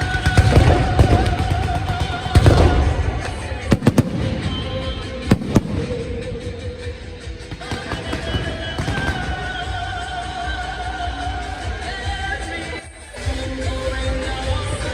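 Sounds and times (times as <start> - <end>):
fireworks booming: 0.0 - 12.0
fireworks cracking: 0.0 - 14.9
music with long held notes: 0.0 - 14.9.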